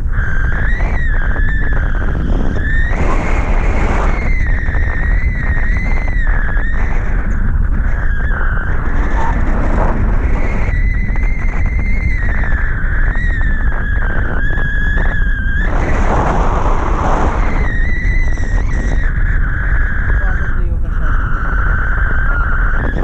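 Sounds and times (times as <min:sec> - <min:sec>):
high whistling tone: 0:00.0 - 0:23.0
wind buffeting microphone: 0:00.0 - 0:23.0.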